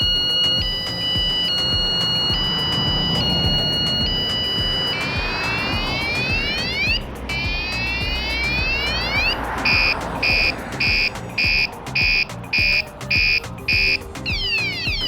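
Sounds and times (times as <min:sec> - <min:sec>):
bike alarm siren whoop: 0:00.0 - 0:15.0
sharp alarm beeps: 0:00.0 - 0:15.0.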